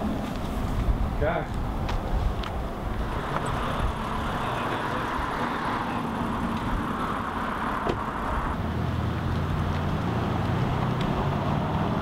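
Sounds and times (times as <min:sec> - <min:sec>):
pickup truck running: 0:00.0 - 0:12.0.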